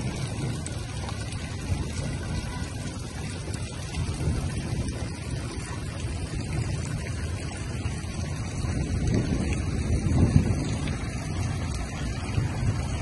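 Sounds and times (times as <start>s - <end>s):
continuous low rumble: 0.0s - 13.0s
rain falling on street: 0.0s - 13.0s.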